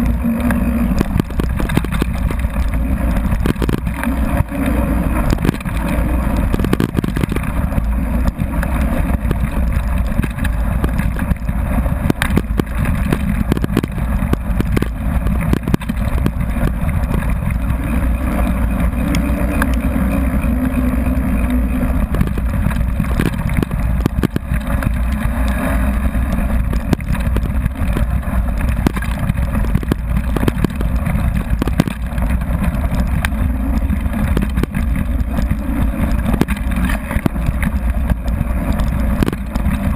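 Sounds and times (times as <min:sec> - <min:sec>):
bike rattling on gravel: 0:00.0 - 0:39.9
tyre and wind rumble: 0:00.0 - 0:39.9.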